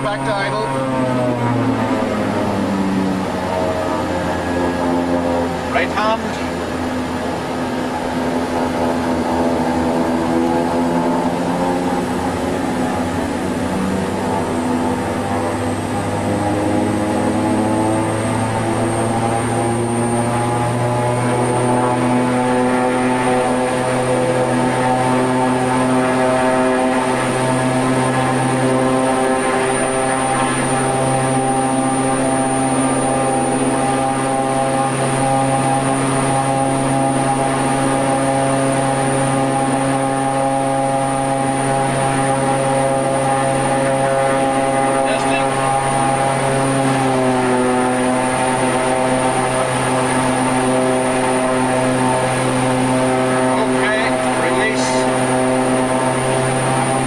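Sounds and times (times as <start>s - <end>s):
propeller engine drone: 0.0s - 57.0s.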